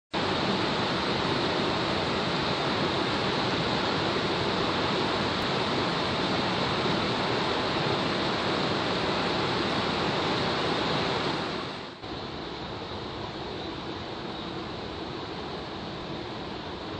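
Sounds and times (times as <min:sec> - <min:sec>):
rushing mountain stream: 0:00.2 - 0:16.9.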